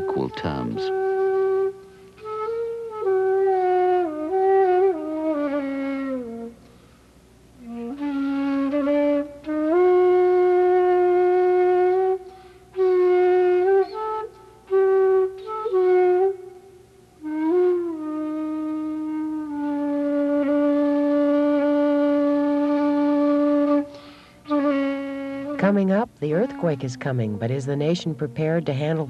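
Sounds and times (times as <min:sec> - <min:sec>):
solo flute melody: 0:00.0 - 0:07.0, 0:07.6 - 0:29.0.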